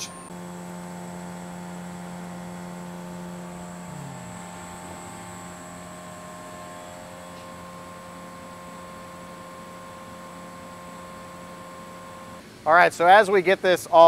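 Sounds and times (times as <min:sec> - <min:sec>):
low mechanical drone: 0:00.0 - 0:12.8
thin steady tones: 0:00.0 - 0:13.2.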